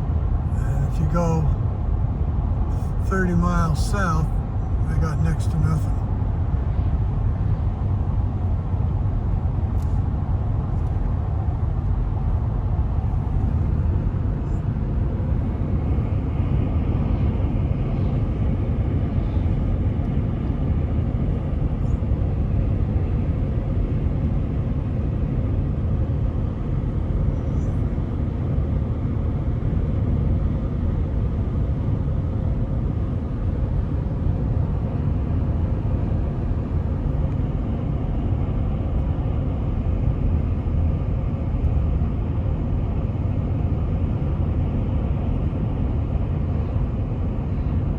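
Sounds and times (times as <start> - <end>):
car road and engine noise: 0.0 - 47.9.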